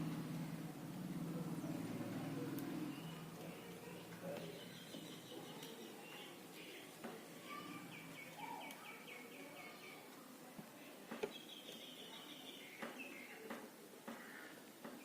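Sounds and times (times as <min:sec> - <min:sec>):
faint bird chirping: 0:01.3 - 0:10.2, 0:11.2 - 0:15.0.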